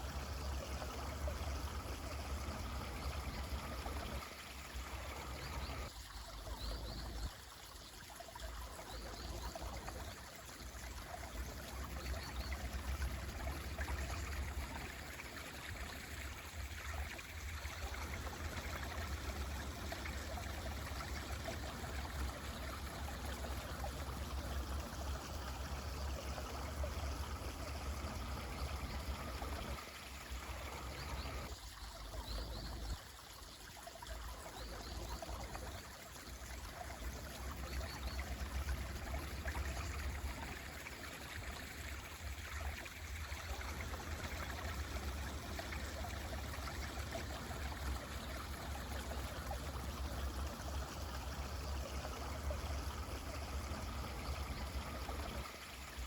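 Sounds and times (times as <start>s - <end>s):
mountain stream running: 0.0s - 56.0s.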